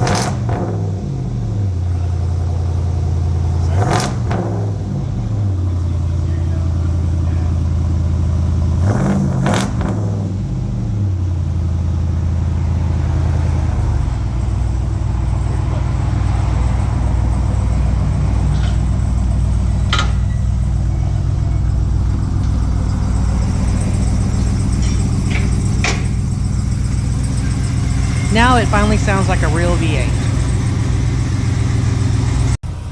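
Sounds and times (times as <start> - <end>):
engine exhaust rumble: 0.0 - 32.9.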